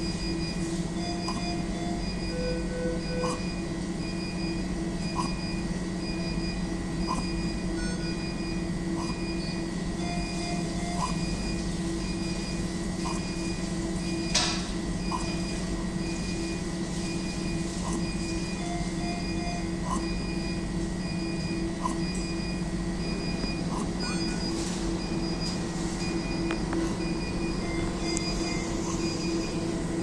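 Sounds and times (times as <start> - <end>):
medical equipment hum: 0.0 - 30.0
monitor beeping tones: 0.0 - 30.0.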